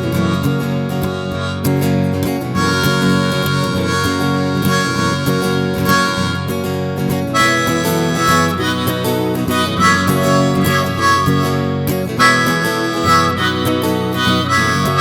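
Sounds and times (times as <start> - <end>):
harmonica melody: 0.0 - 15.0
strummed guitar: 0.0 - 15.0.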